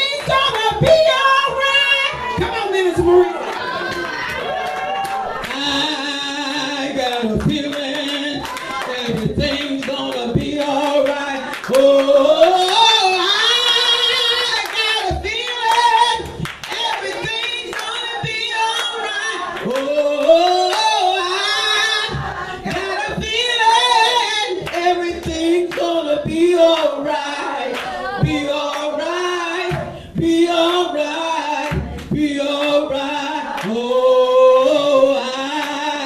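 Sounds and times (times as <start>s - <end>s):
congregation singing: 0.0s - 36.0s
hands clapping: 2.0s - 5.9s, 6.6s - 30.8s, 31.6s - 33.9s, 35.5s - 36.0s.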